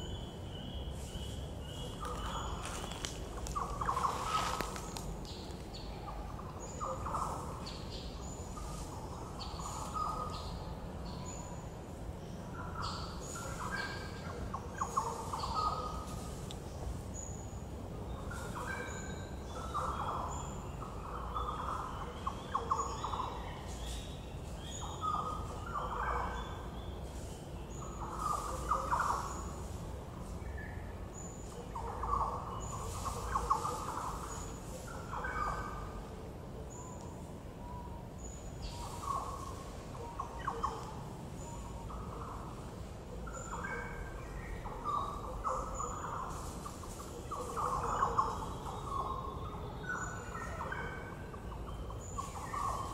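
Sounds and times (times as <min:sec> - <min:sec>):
birds calling: 0:00.0 - 0:52.9.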